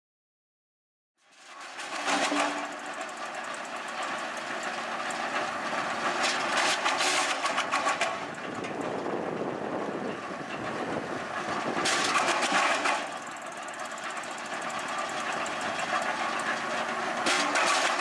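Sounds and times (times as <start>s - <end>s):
wood chipper running: 1.2s - 18.0s.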